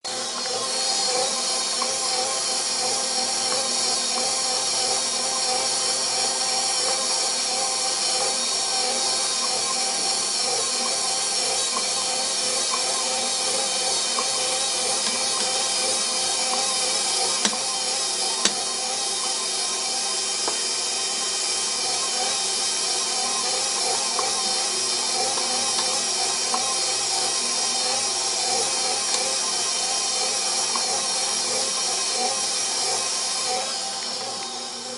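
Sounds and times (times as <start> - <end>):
stand mixer motor whine: 0.0 - 34.9.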